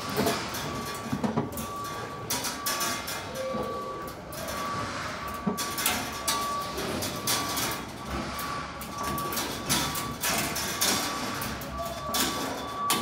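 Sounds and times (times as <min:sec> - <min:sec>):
backup alarm beeping: 0:00.0 - 0:13.0.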